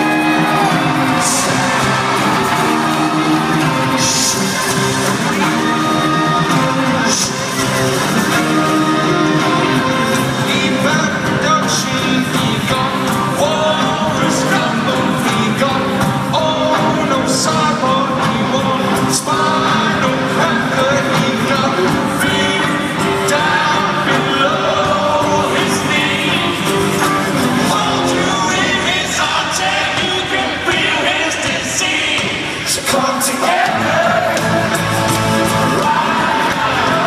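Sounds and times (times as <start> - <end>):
live rock band with singing: 0.0 - 37.0.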